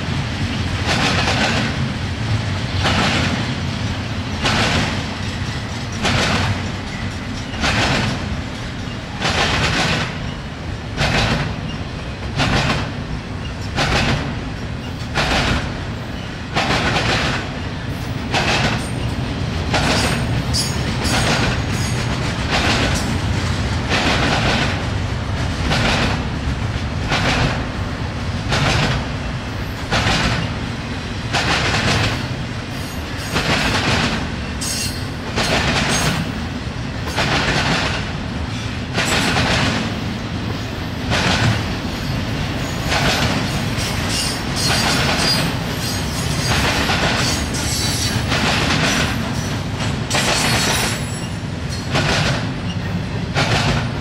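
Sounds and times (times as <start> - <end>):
train wheels rumbling on track: 0.0 - 54.0
rhythmic clickety-clack of wheels: 0.1 - 54.0.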